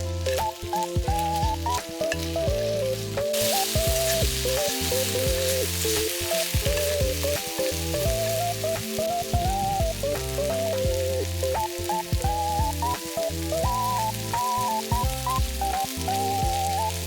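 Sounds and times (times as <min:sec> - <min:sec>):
background music with bass: 0:00.0 - 0:17.0
food sizzling in a pan: 0:00.0 - 0:17.0.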